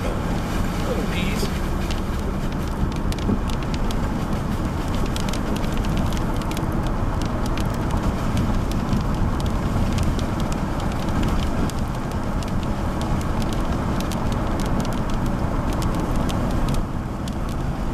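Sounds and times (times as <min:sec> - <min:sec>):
car road and engine noise: 0:00.0 - 0:17.9
raindrops ticking on windshield: 0:00.0 - 0:17.9.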